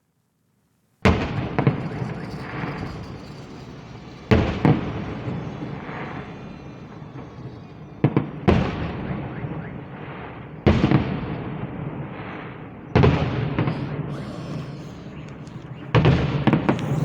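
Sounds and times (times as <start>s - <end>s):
fireworks bursting with echo: 1.1s - 17.0s.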